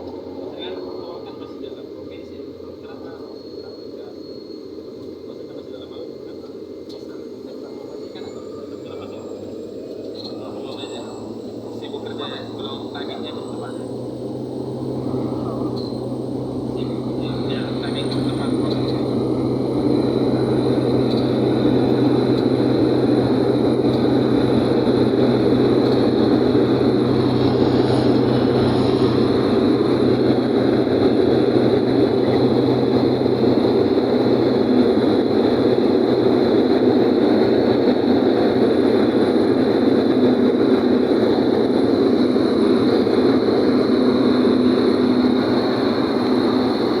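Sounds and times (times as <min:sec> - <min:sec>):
high turbine whine: 0:00.0 - 0:47.0
turboprop engine drone: 0:00.0 - 0:47.0.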